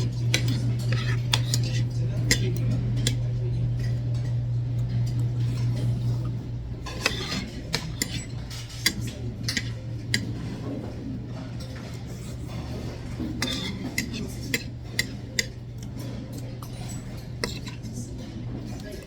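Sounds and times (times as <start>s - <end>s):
low steady hum: 0.0s - 19.0s
utensils clinking against dishes: 0.0s - 19.0s.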